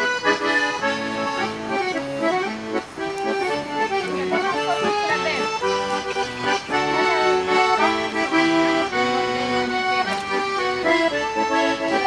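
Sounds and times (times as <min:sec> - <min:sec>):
accordion playing folk dance tune: 0:00.0 - 0:12.0.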